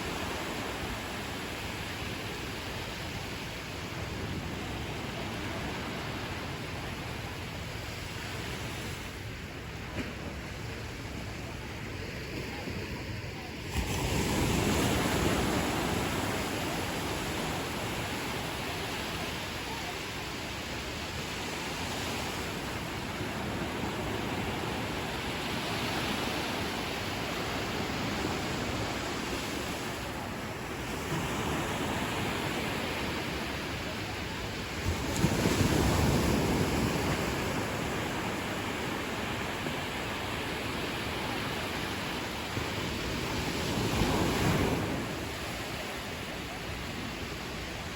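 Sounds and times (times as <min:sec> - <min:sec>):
ocean waves breaking on a beach: 0:00.0 - 0:47.9.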